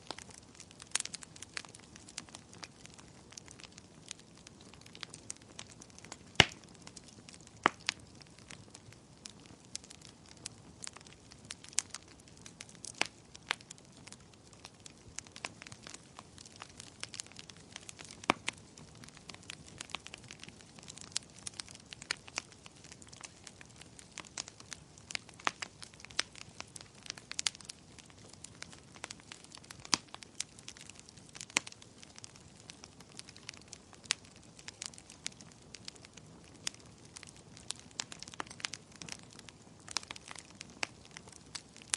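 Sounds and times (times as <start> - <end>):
faint steady hiss: 0.0 - 41.9
wood fire crackling and popping: 0.0 - 41.9.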